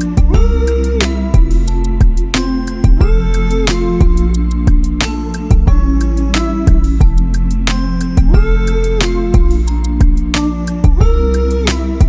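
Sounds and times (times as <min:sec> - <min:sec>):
instrumental music with bass: 0:00.0 - 0:12.0.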